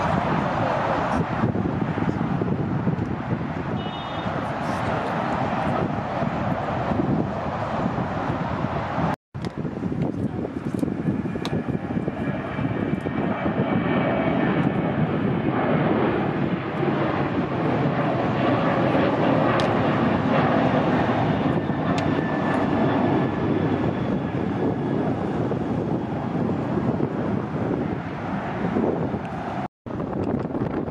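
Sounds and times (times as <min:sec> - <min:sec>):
jet engines at takeoff power: 0:00.0 - 0:30.9.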